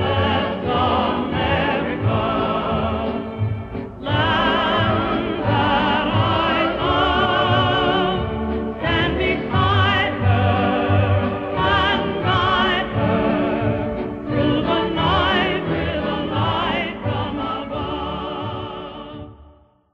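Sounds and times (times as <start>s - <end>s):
operatic singing: 0.0s - 19.6s
orchestral accompaniment: 0.0s - 19.6s.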